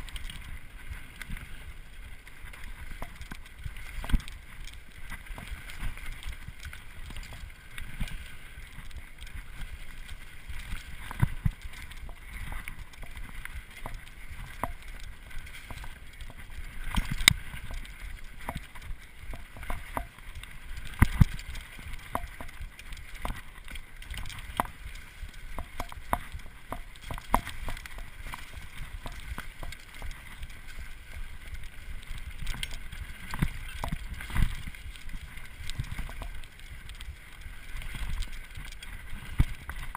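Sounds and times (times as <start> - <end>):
bike knocking and rattling: 2.2 - 39.9.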